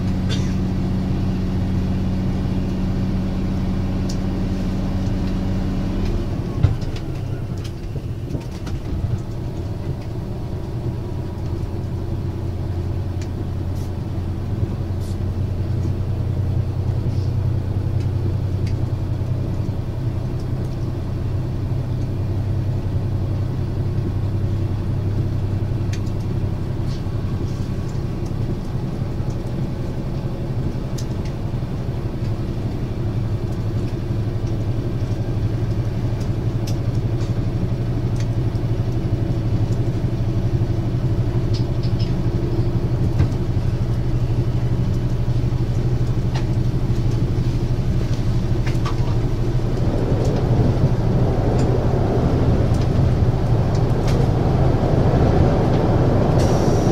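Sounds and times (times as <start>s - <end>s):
diesel railcar engine running: 0.0s - 56.9s
train rumble in motion: 0.0s - 56.9s.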